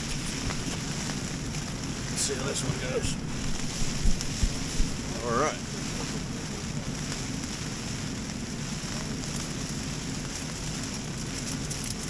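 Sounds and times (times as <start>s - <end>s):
rain drumming on tent: 0.0s - 12.0s.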